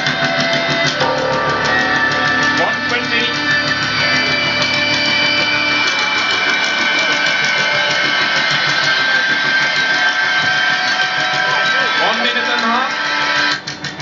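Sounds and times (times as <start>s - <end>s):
background music with long held notes: 0.0s - 13.6s.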